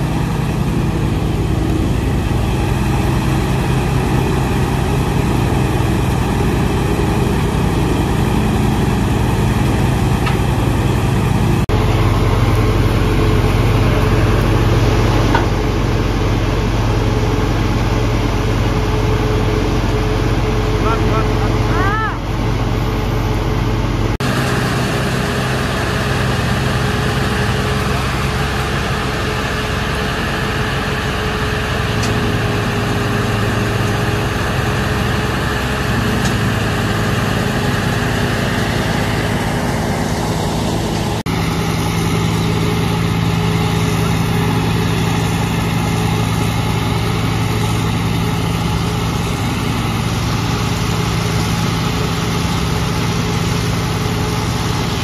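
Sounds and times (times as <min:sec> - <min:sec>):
wood crusher machine drone: 0:00.0 - 0:55.0.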